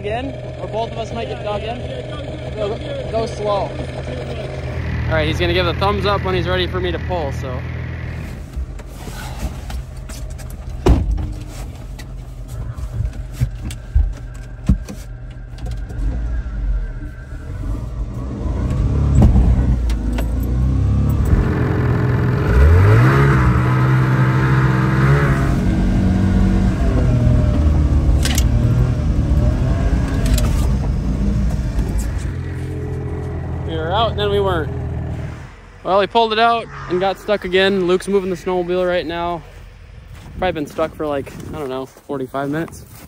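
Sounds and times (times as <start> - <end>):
truck engine idling and revving: 0.0 - 41.8.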